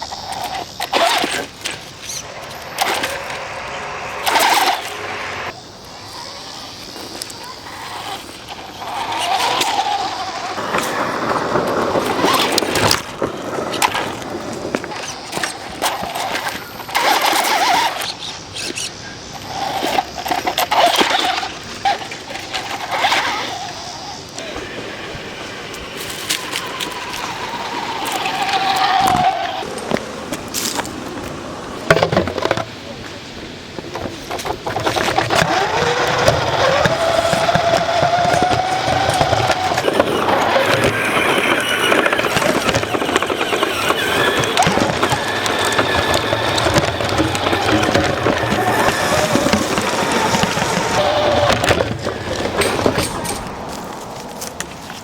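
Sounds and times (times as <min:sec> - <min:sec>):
dense crackling noise: 0:00.0 - 0:19.4, 0:23.6 - 0:55.0
toy car electric motor whine: 0:00.0 - 0:30.9, 0:34.0 - 0:55.0
tyres hissing and clattering: 0:00.0 - 0:55.0.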